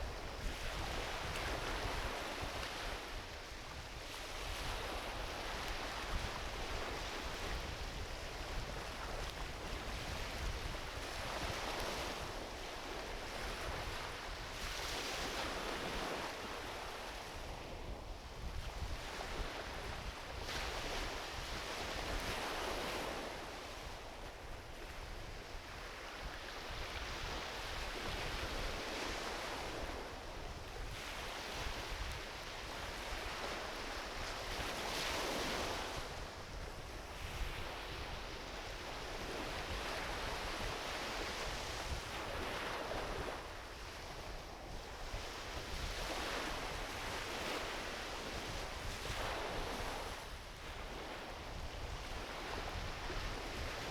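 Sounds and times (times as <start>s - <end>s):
small waves washing onto beach: 0.0s - 53.9s
wind rumble on microphone: 0.0s - 53.9s.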